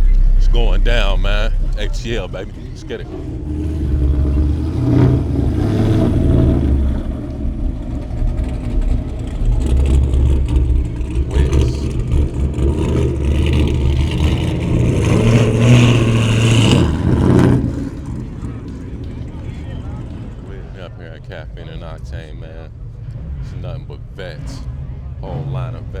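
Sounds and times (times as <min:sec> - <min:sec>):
car engines rumbling: 0:00.0 - 0:26.0.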